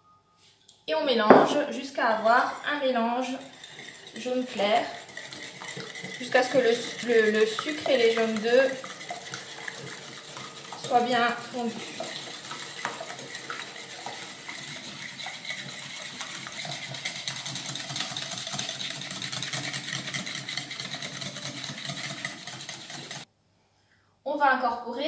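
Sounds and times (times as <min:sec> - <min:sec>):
wire whisk beating in bowl: 0:01.3 - 0:23.3.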